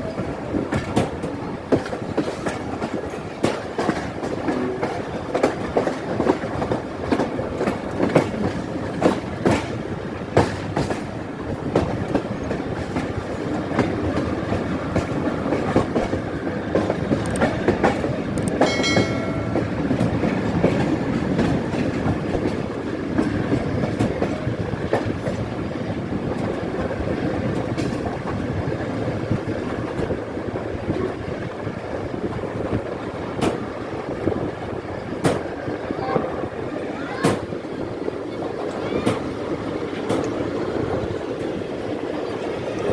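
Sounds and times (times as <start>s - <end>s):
train rumbling on track: 0.0s - 42.9s.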